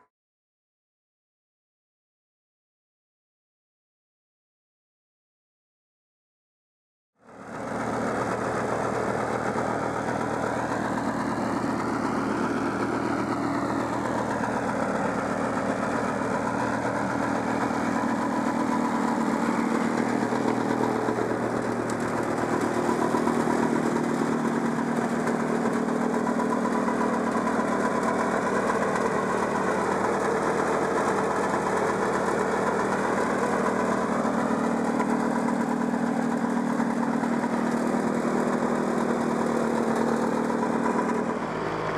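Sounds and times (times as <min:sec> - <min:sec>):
snowmobile engine idling: 0:07.2 - 0:41.9.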